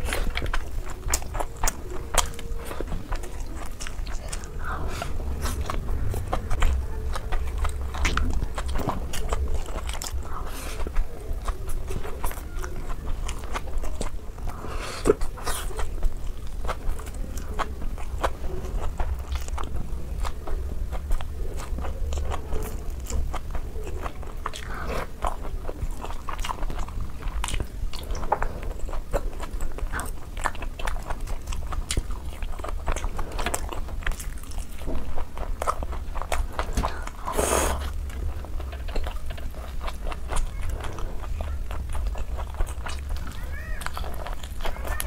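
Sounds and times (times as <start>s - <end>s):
low steady hum: 0.0s - 45.0s
wet chewing and biting: 0.0s - 45.0s.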